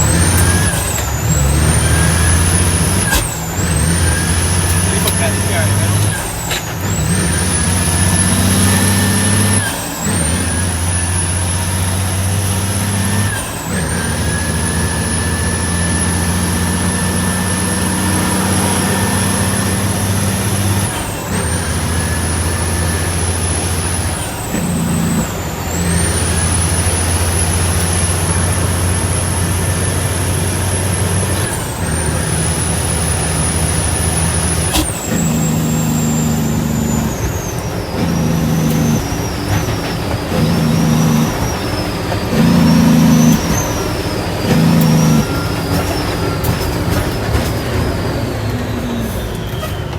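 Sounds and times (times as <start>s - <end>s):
diesel truck engine under load: 0.0s - 49.9s.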